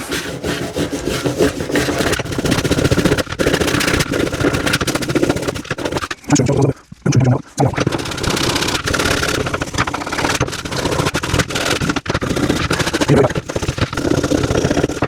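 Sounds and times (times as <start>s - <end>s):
wire brush scrubbing metal: 0.0s - 6.5s, 7.8s - 15.0s.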